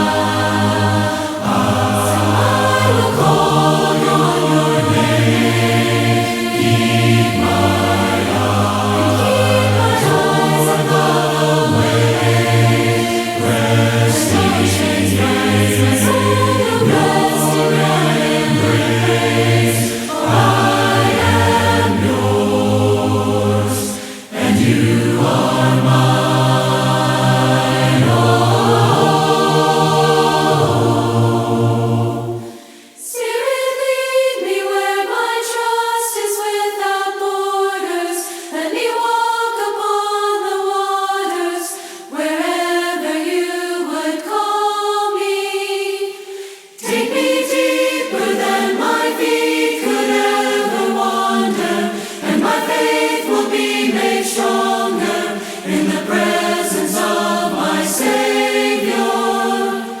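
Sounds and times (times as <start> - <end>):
group singing a cappella: 0.0 - 60.0.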